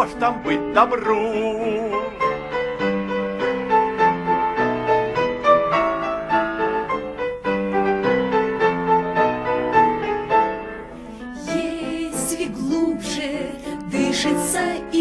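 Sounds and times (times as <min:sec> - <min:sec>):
piano melody over chords: 0:00.0 - 0:15.0.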